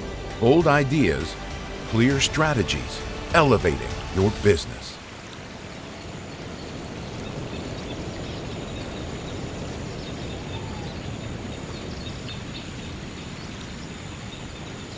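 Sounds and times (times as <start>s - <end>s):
stream water flowing: 0.0s - 14.9s.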